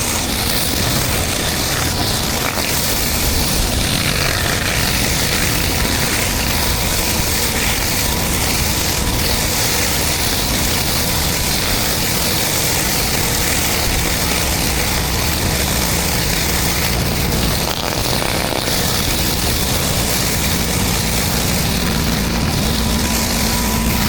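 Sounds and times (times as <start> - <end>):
pressure washer engine running: 0.0 - 24.0
water spraying on concrete: 0.0 - 24.0.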